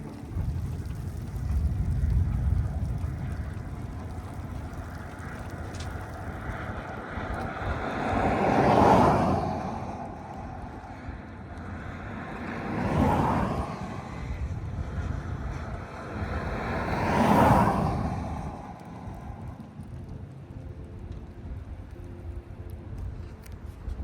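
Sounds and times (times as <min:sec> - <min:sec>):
vehicles passing on highway: 0:00.0 - 0:24.0.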